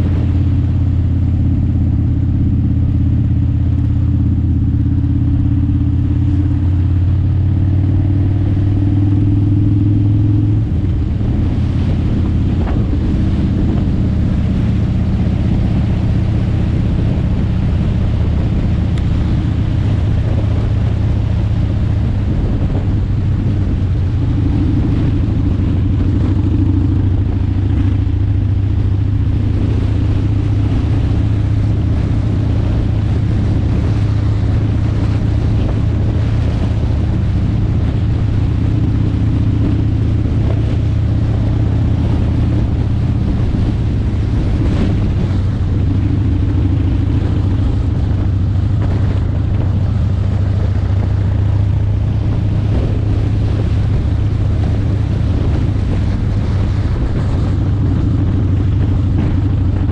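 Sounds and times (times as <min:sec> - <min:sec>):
low engine drone: 0:00.0 - 0:59.9
wind noise on microphone: 0:00.0 - 0:59.9.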